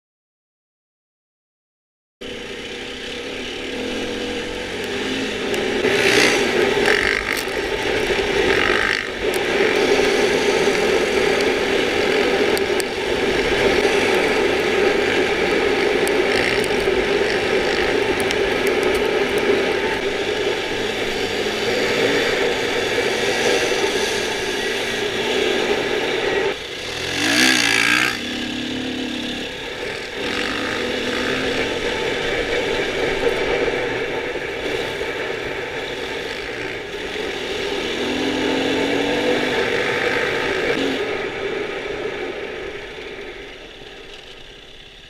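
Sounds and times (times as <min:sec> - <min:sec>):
dirt bike engine running: 0:02.2 - 0:45.0.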